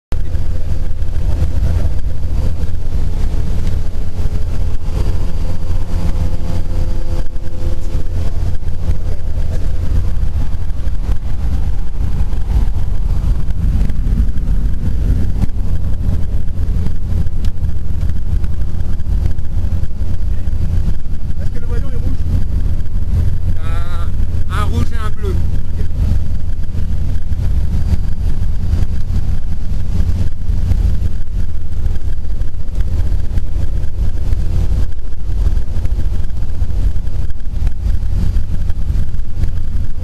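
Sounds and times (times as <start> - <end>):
aircraft engine drone: 0.1 - 40.0.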